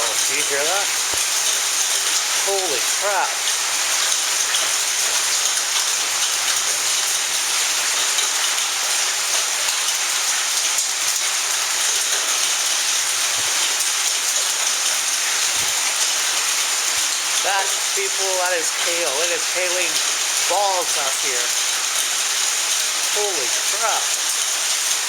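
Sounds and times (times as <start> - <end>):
heavy hail falling: 0.0 - 25.0.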